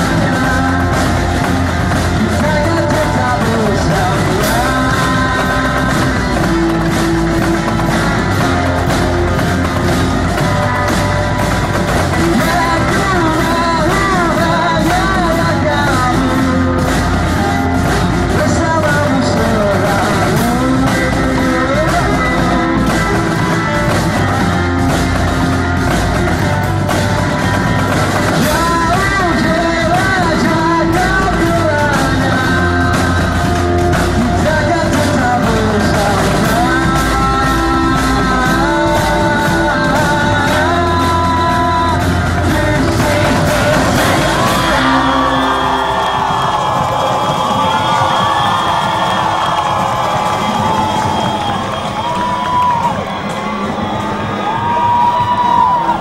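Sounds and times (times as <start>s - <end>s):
rock song with vocals: 0.0s - 56.0s.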